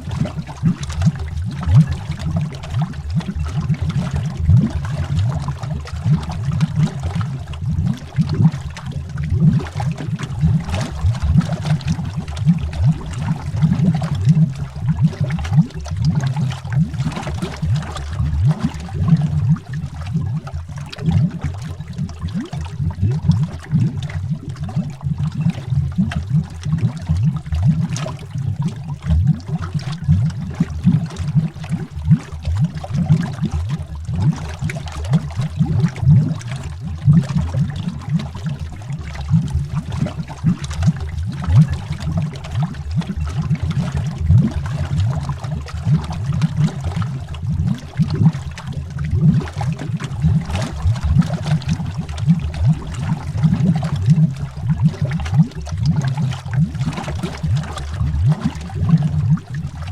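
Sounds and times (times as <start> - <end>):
underwater bubbles gurgling: 0.0 - 59.9.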